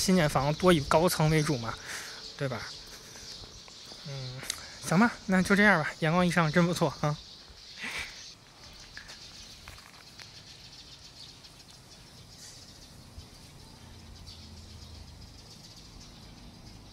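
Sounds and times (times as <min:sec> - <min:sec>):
distant bird chirps: 0:00.0 - 0:16.9.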